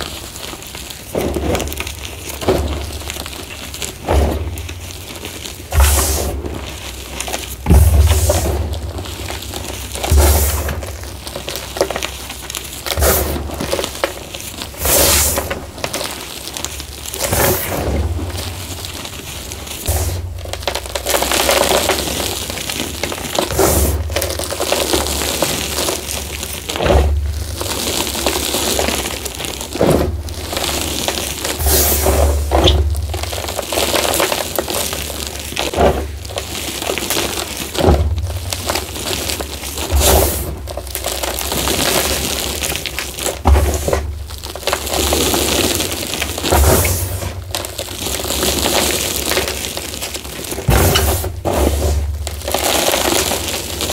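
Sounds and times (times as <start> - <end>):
hands crunching chalk: 0.0 - 53.9.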